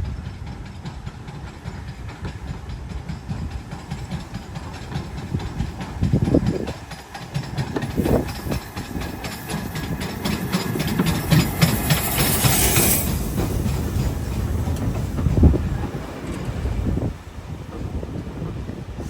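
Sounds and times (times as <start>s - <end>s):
steam hissing rush: 0.0s - 19.0s
steam train rumbling past: 0.0s - 19.0s
wheels clattering: 0.0s - 19.0s.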